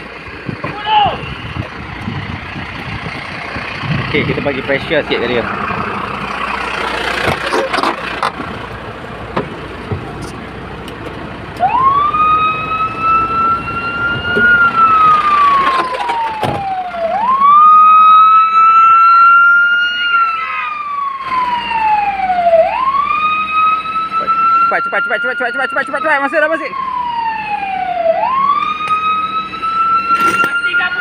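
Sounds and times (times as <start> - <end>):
fire engine siren wailing: 0.0 - 9.1, 11.3 - 31.0.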